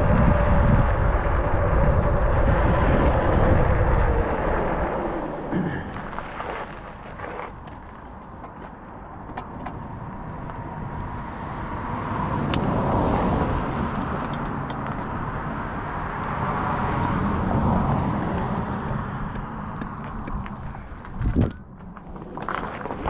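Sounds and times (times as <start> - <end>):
wind and tyre rumble: 0.0 - 23.0.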